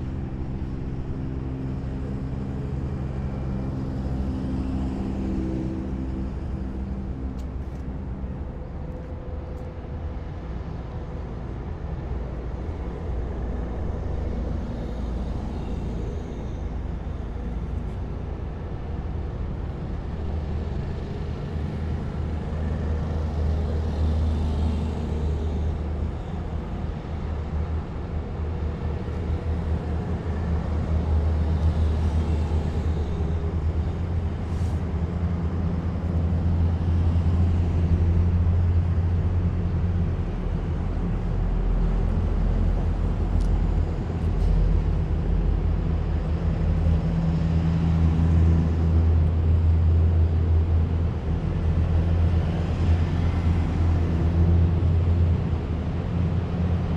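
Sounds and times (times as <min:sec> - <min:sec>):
heavy military vehicle engines rumbling: 0:00.0 - 0:56.9.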